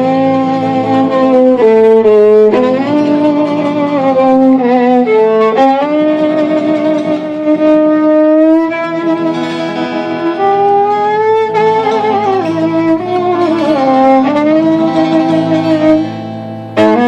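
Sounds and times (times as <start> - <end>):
instrumental music with sliding melody: 0.0 - 17.0.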